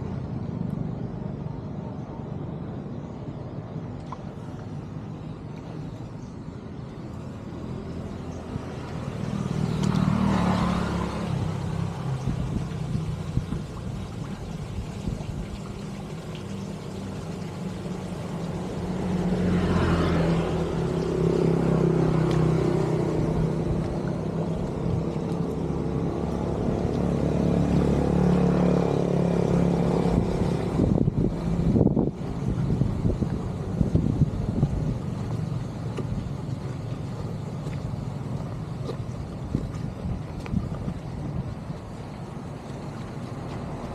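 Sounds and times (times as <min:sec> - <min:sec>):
vehicle engines running: 0:00.0 - 0:43.9
vehicles passing close by: 0:00.0 - 0:43.9.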